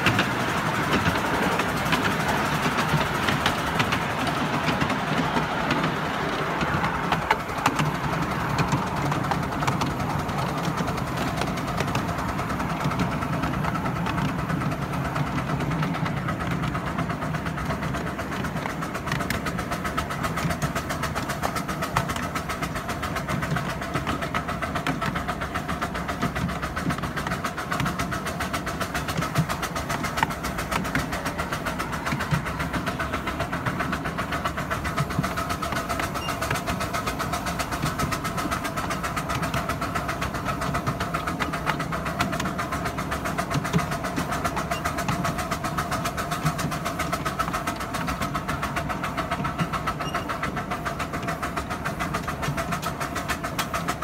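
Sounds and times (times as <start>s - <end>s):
rapid clicking: 0.0s - 54.0s
train wheels rumbling on rail: 0.0s - 54.0s.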